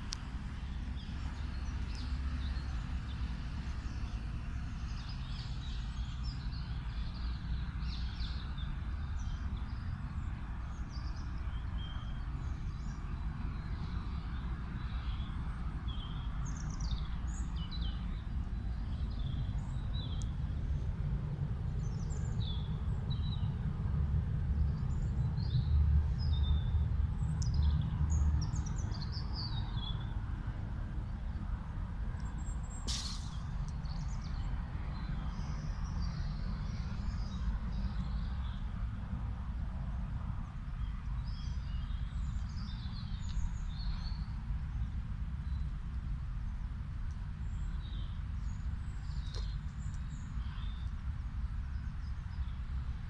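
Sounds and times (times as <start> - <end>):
songbirds chirping: 0.0 - 53.0
steady low rumble: 0.0 - 53.0.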